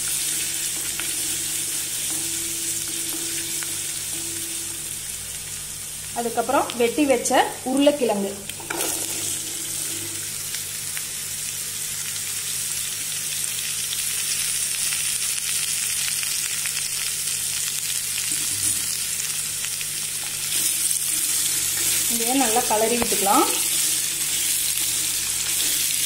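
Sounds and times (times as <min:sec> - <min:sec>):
potato frying in hot oil: 0:00.0 - 0:26.0.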